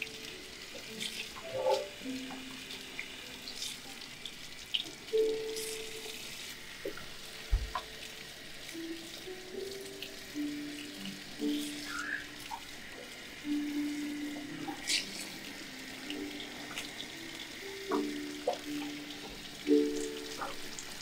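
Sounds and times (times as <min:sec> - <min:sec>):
running water hiss: 0:00.0 - 0:21.0
soft music with held notes: 0:00.0 - 0:21.0.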